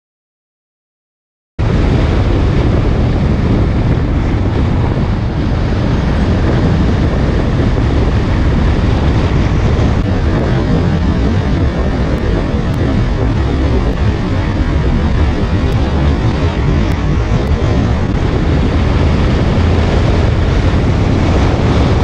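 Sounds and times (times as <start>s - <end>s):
motorcycle engine running: 1.6s - 22.0s
road noise: 1.6s - 22.0s
wind buffeting microphone: 1.6s - 22.0s.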